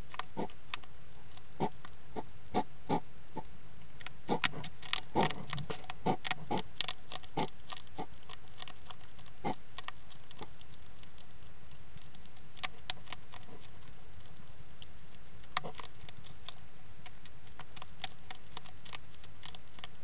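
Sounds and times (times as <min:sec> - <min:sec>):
hedgehog crunching food: 0:00.0 - 0:20.0
microphone hiss: 0:00.0 - 0:20.0.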